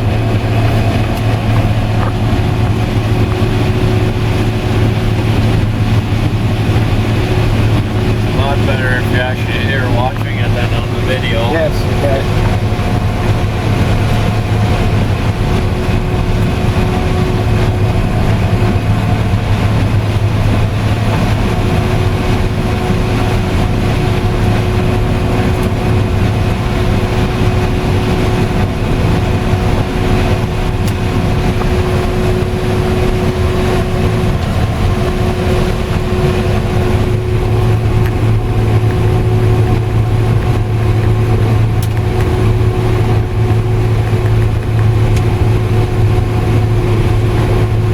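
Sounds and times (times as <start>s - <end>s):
combine harvester drone from cab: 0.0s - 47.9s.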